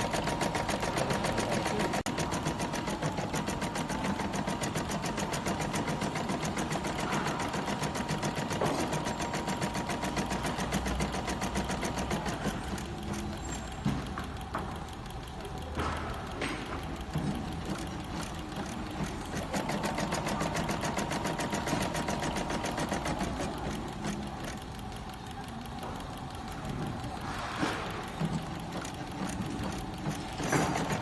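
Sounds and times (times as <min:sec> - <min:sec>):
sewing machine stitching: 0:00.0 - 0:31.0.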